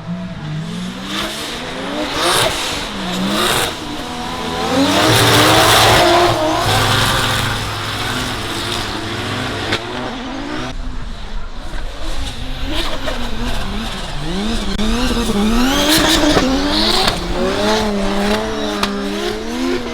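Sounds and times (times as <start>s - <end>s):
car engine revving: 0.0s - 19.9s
tyre noise on wet track: 0.0s - 19.9s.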